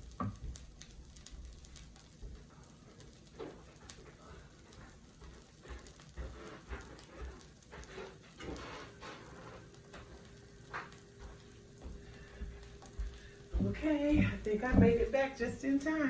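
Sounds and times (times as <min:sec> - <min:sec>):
cheese sizzling in a pan: 0:00.0 - 0:16.0.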